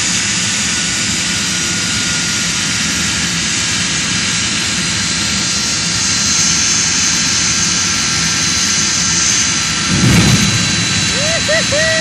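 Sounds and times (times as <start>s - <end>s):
turbine engine roar with whine: 0.0s - 12.0s.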